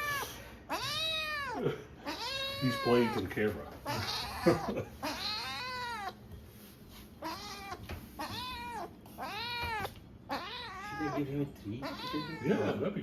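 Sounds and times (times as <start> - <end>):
kitten meowing: 0.0 - 6.2, 7.2 - 12.7.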